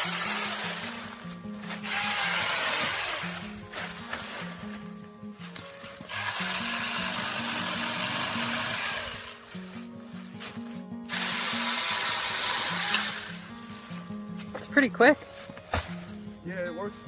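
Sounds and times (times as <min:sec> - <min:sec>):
electric chainsaw cutting branches: 0:00.0 - 0:13.9
background music: 0:00.0 - 0:17.0.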